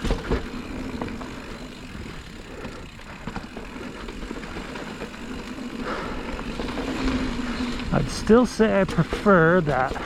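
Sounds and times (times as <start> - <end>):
bike chain and frame clicks: 0.0 - 10.0.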